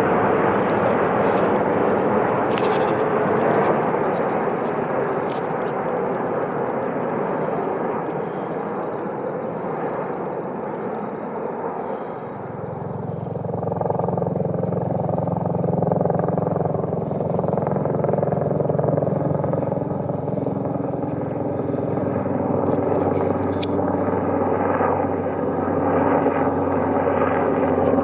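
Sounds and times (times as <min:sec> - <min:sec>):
helicopter rotor beating: 0:00.0 - 0:28.0.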